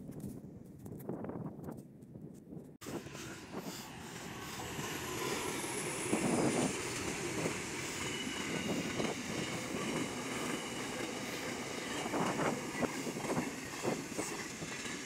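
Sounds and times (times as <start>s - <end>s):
diesel locomotive engine drone: 2.8s - 15.0s
train wheels on rails: 2.8s - 15.0s.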